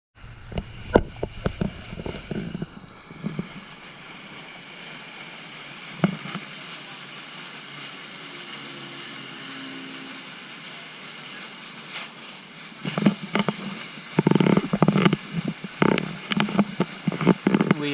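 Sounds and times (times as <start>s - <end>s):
boat hull and motor rushing: 0.2s - 17.9s.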